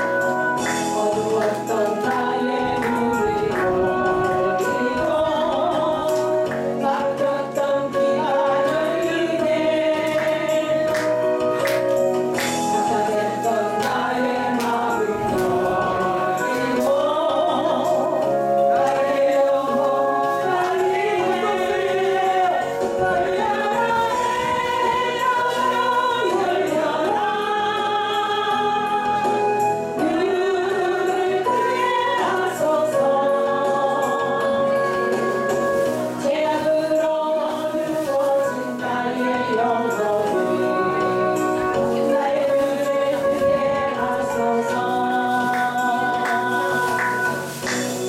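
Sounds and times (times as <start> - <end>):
instrumental accompaniment: 0.0 - 48.0
woman singing into a microphone: 0.0 - 48.0.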